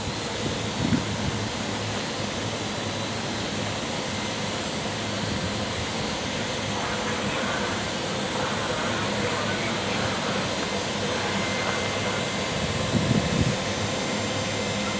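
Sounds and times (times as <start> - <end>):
train humming and whining: 0.0 - 14.9.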